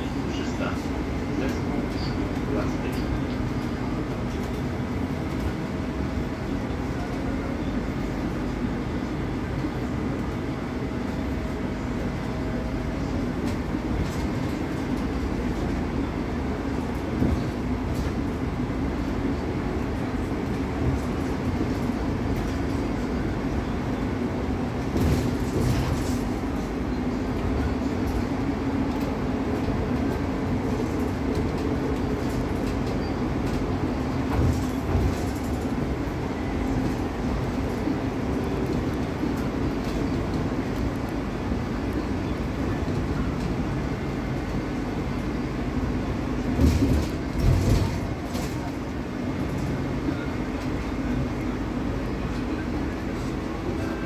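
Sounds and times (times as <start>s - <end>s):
bus rumbling: 0.0s - 54.0s.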